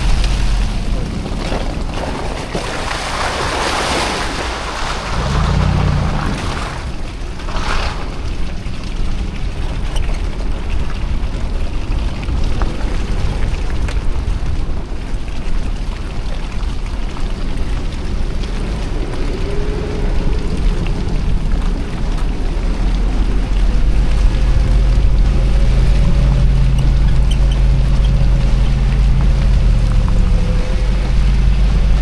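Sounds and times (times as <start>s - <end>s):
vehicle engine low rumble: 0.0s - 3.0s, 4.8s - 32.0s.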